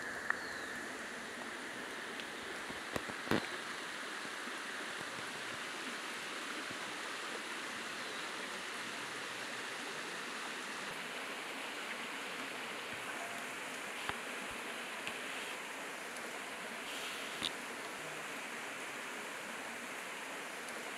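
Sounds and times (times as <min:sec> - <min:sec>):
stream rushing: 0:00.0 - 0:20.9.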